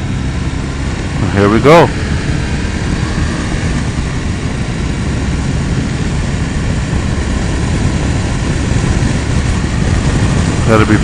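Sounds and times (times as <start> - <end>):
motorcycle engine drone: 0.0 - 11.0
wind rush on microphone: 0.0 - 11.0.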